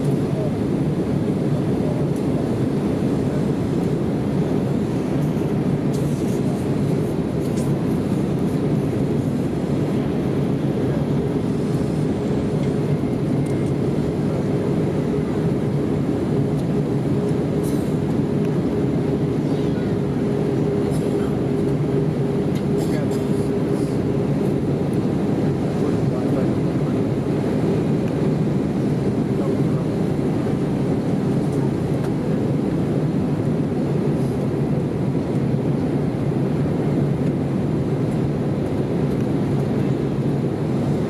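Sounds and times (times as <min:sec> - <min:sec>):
deep rumble of engines and airflow: 0:00.0 - 0:41.0.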